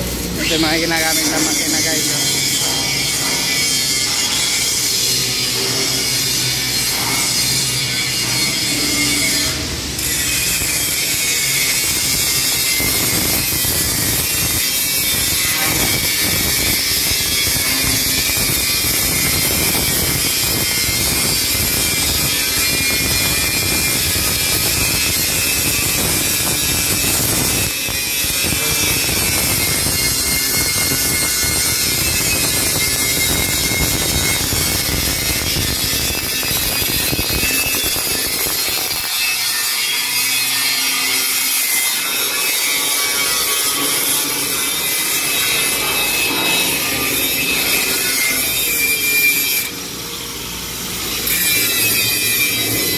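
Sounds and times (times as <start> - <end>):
welding arc crackling hiss: 0.0 - 52.9.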